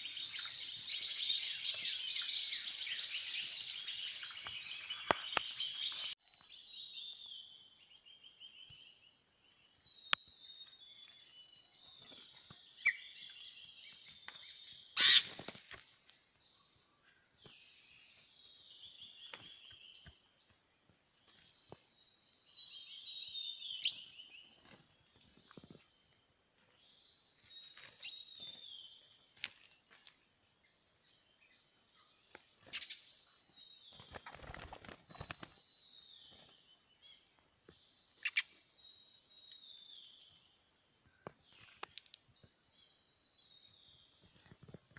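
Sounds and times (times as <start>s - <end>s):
small birds chirping and trilling: 0.0s - 44.9s.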